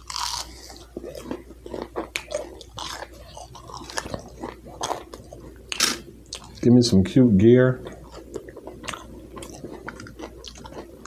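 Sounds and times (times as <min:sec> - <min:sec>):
man chewing food: 0:00.0 - 0:06.8, 0:07.7 - 0:11.0.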